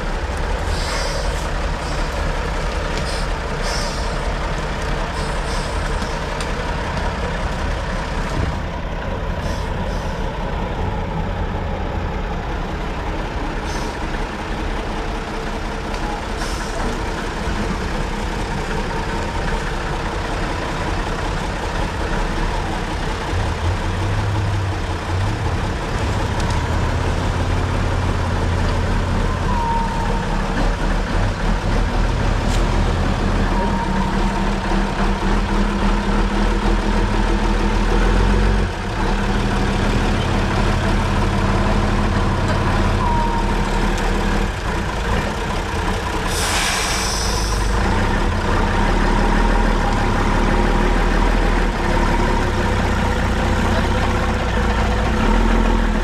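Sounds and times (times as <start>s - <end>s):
truck diesel engine under load: 0.0s - 56.0s.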